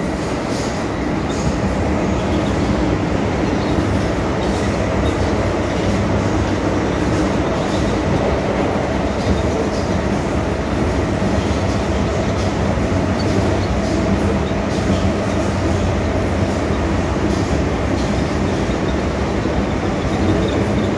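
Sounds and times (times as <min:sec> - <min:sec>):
rail-joint clicks: 0:00.0 - 0:20.9
train motor hum: 0:00.0 - 0:20.9
wheels rolling on rail: 0:00.0 - 0:20.9.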